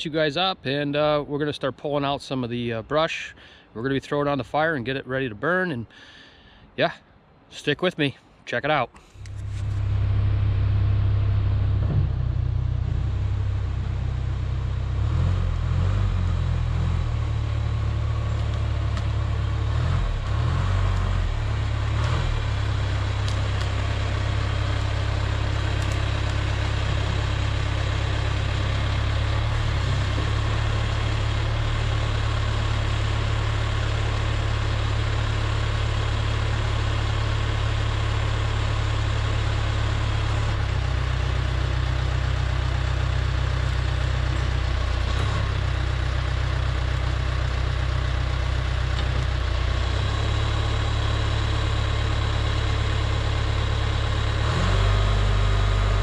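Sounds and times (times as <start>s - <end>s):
backhoe diesel engine running: 9.1s - 56.0s.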